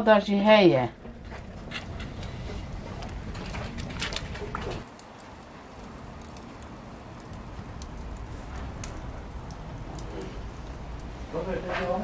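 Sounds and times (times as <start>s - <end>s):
faint crackles and pops: 1.0s - 12.0s.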